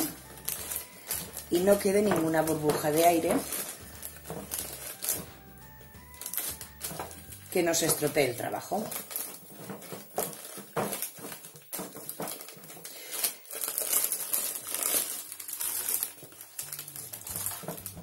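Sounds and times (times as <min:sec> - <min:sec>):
plastic sheet crinkling: 0:00.0 - 0:18.0.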